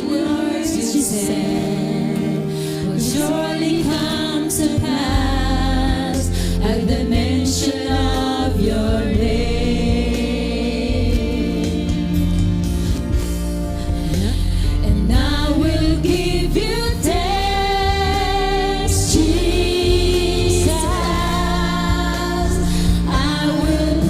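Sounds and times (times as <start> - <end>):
person singing a worship song: 0.0 - 13.0, 14.0 - 24.0
accompaniment with strong bass: 3.1 - 24.0.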